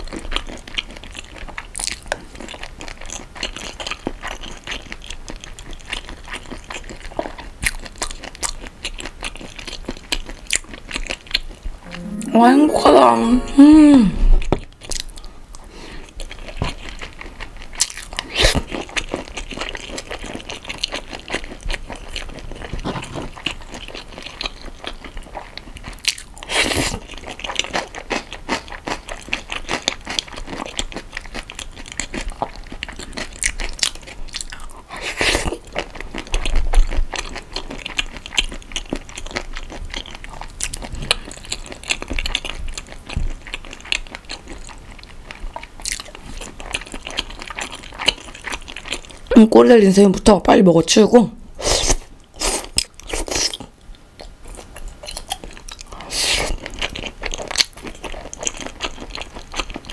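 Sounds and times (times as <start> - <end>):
chewing wet clicks and crunches: 0.0 - 11.6, 14.5 - 49.3, 52.2 - 59.9.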